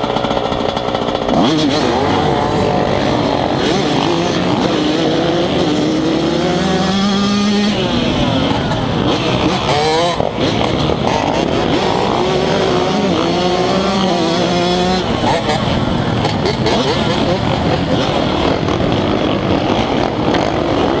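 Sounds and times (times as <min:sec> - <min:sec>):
dirt bike accelerating: 0:00.0 - 0:21.0
other dirt bikes revving: 0:00.0 - 0:21.0.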